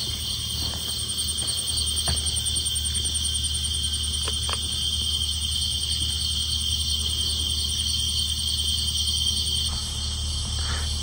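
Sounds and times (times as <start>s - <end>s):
crickets and insects trilling: 0.0s - 11.0s
low steady hum: 0.0s - 11.0s.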